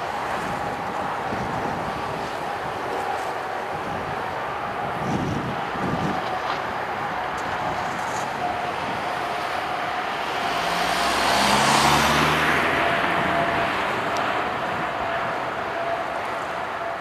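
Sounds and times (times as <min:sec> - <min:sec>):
distant jet engine roar: 0:00.0 - 0:17.0.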